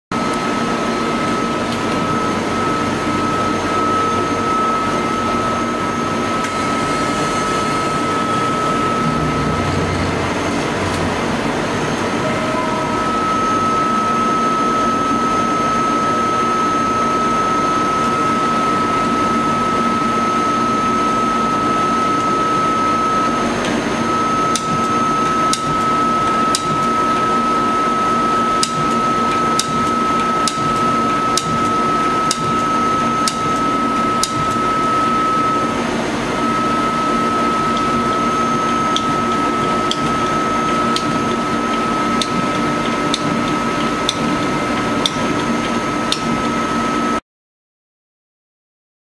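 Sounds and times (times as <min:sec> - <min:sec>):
lathe humming with high whine: 0:00.1 - 0:47.2.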